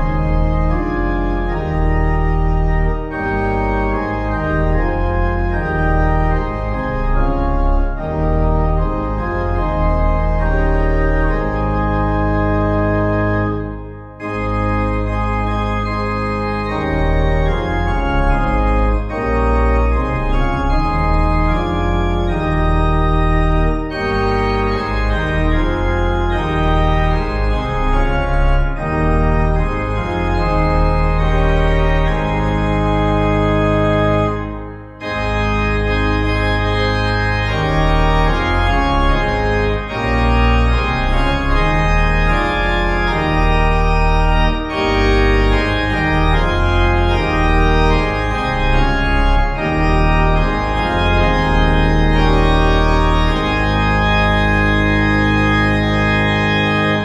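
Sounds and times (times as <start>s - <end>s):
church organ playing hymn: 0.0s - 57.0s.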